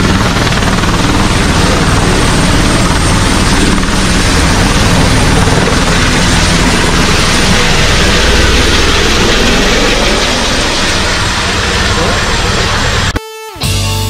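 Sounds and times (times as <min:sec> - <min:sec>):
helicopter rotor and turbine: 0:00.0 - 0:13.2.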